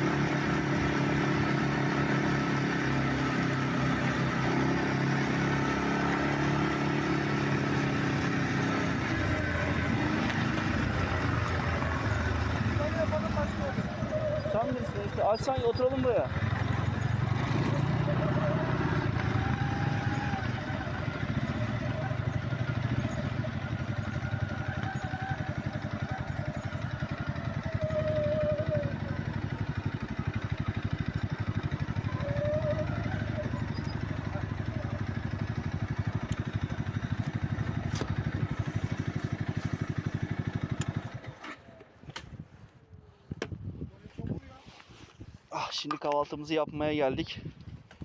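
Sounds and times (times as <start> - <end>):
atv engine running: 0.0 - 42.4.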